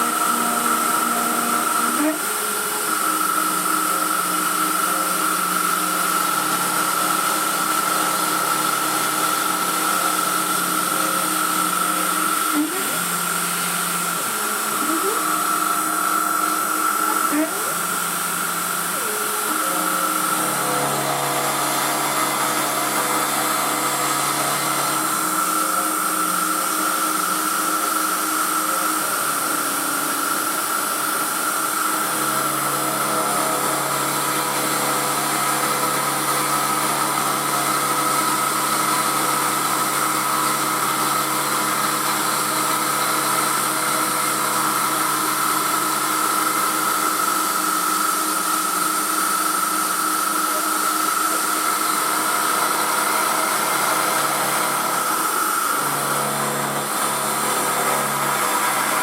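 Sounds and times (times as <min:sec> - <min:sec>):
milling machine running: 0:00.0 - 0:59.0.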